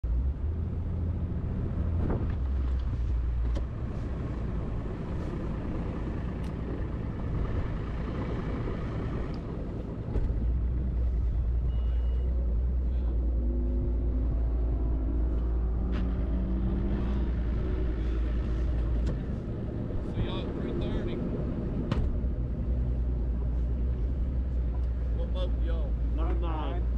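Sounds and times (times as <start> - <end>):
outboard motor rumbling: 2.0 - 26.9.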